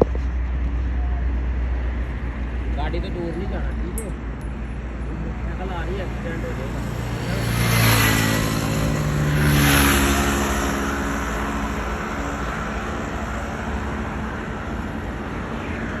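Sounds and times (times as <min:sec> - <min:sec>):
steady traffic noise: 0:00.0 - 0:16.0
vehicles passing on a road: 0:00.0 - 0:16.0.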